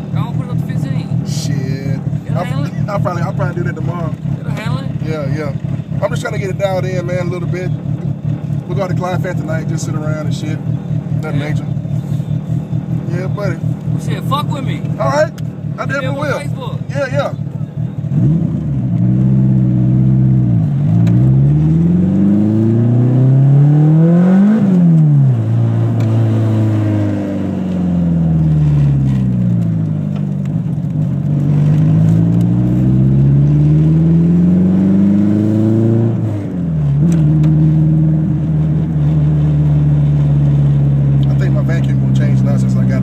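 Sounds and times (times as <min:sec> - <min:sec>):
turbocharged car engine revving: 0:00.0 - 0:43.0.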